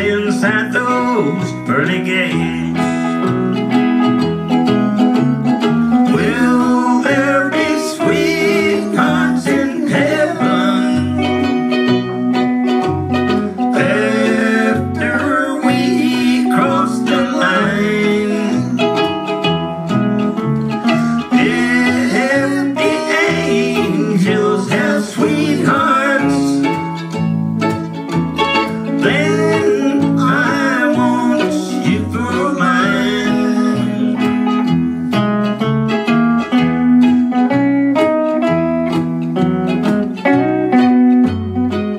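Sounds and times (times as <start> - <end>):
electric guitar: 0.0 - 41.9
mandolin picking: 0.0 - 41.9
plucked upright bass: 0.0 - 41.9.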